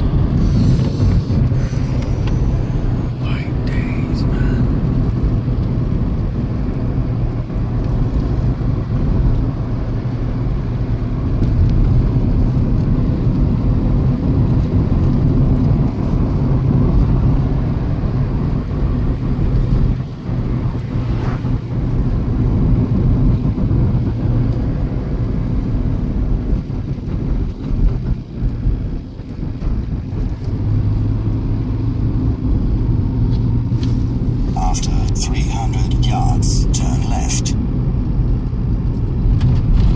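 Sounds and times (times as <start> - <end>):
car engine hum: 0.0 - 39.9.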